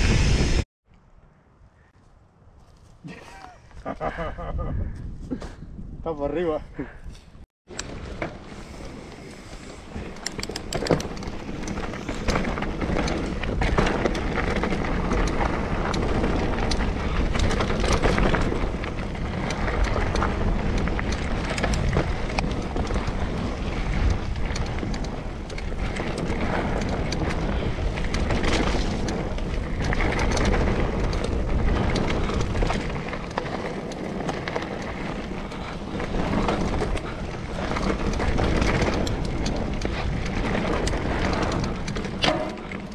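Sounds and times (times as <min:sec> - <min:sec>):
wind buffeting microphone: 0:03.4 - 0:42.9
bike rattling and clicking: 0:06.8 - 0:42.9
tyres rolling over dirt: 0:07.7 - 0:42.9.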